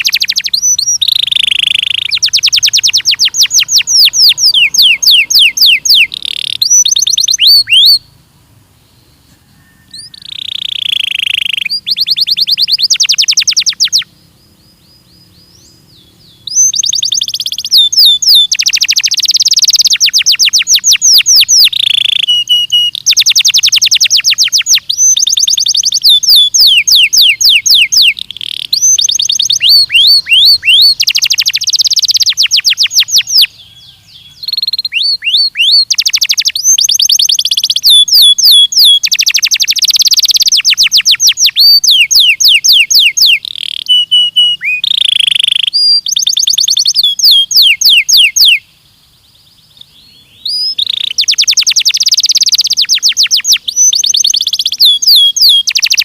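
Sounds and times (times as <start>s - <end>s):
canary singing trills: 0.0s - 8.2s, 8.8s - 56.0s.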